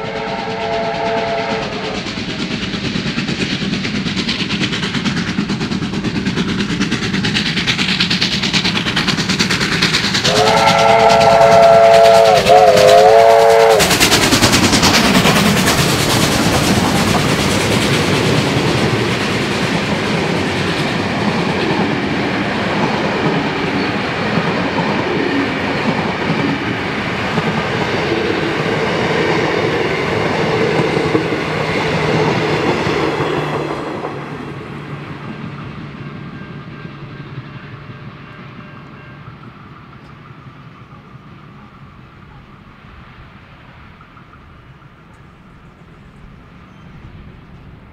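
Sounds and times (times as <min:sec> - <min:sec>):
train wheels clicking over rail joints: 0:00.0 - 0:41.8.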